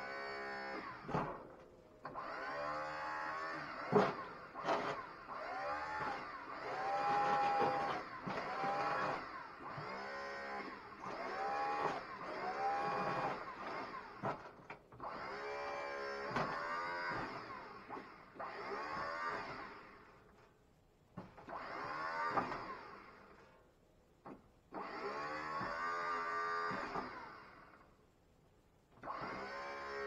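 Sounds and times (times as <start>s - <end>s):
hydraulic pump motor whining: 0.0s - 20.5s, 21.2s - 23.5s, 24.3s - 27.8s, 29.0s - 30.0s.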